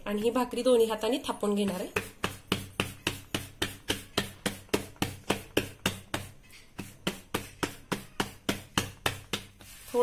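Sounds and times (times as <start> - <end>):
hands patting dough: 0.1 - 10.0.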